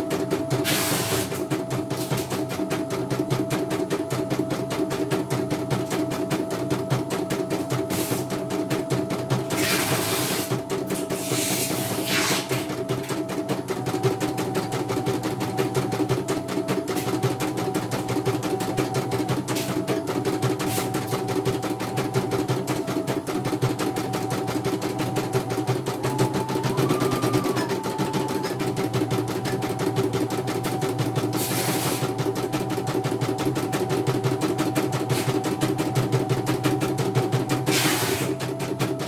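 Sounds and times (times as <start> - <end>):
motor hum: 0.0 - 39.0.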